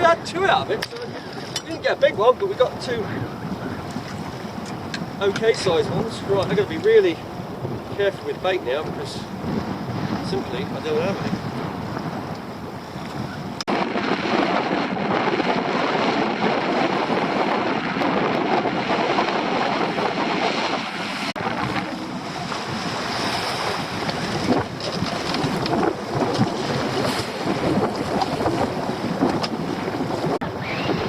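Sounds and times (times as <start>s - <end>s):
waves sloshing around boat: 0.0s - 31.0s
wind buffeting microphone: 0.0s - 31.0s.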